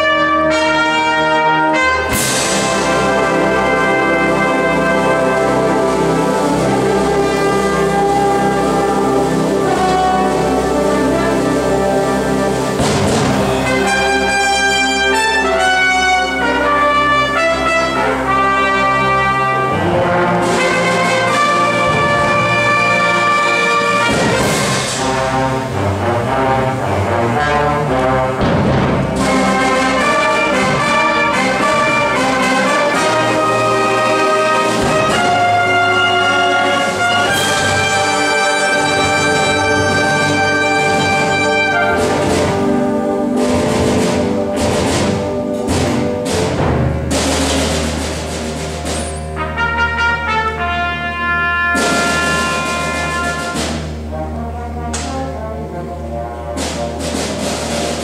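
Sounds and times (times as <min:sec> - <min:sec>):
concert band playing: 0:00.0 - 0:58.0
trumpets and brass: 0:00.0 - 0:58.0.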